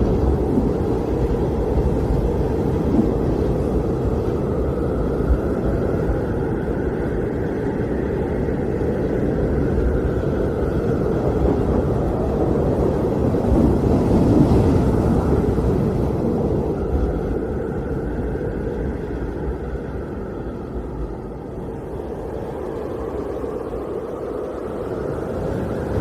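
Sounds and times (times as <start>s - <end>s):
blizzard wind roaring: 0.0s - 26.0s.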